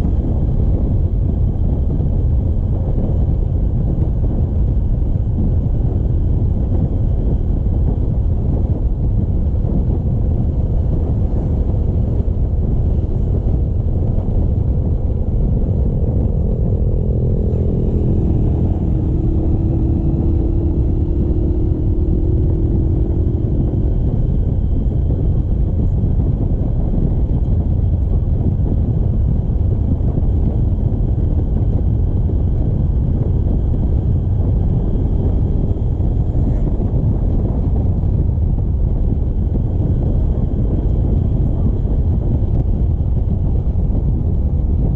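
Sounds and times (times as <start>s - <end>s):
faint motorcycle engine: 0.0s - 44.4s
wind and road noise: 0.0s - 44.9s.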